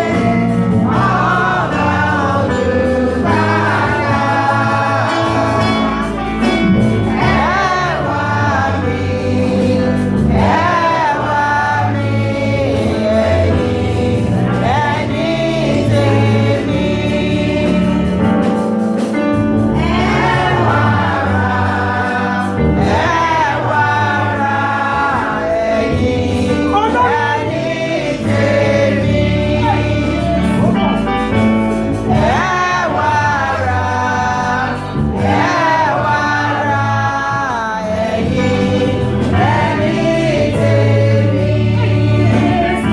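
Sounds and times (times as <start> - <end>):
choir singing a gospel hymn: 0.0 - 42.9
instrumental accompaniment: 0.0 - 42.9.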